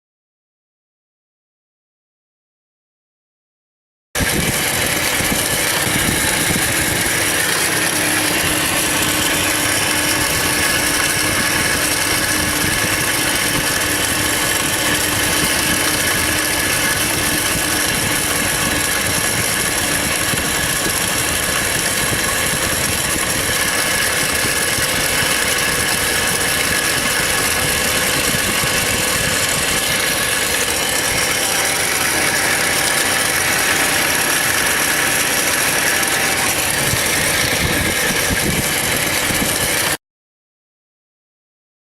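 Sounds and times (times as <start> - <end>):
car engine idling: 4.2 - 40.0
engine rattling: 4.2 - 40.0.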